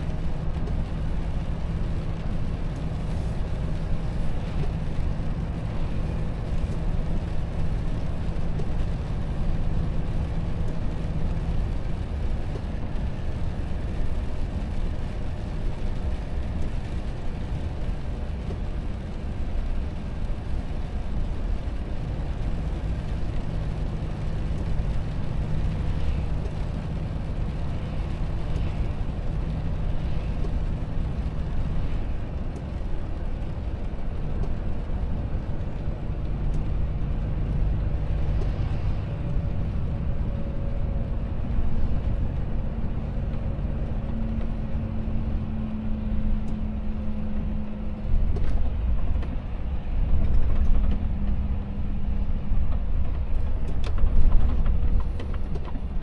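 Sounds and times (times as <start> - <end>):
truck engine drone: 0.0 - 56.0
tyre and road rumble: 0.0 - 56.0.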